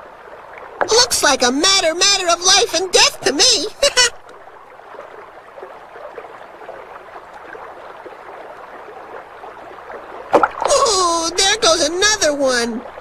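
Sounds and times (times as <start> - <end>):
underwater gurgling wash: 0.0 - 13.0.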